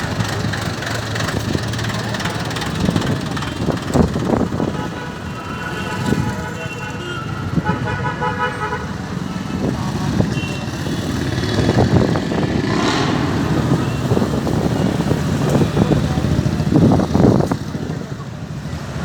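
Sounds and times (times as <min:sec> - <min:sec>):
tractor engines rumbling: 0:00.0 - 0:19.0.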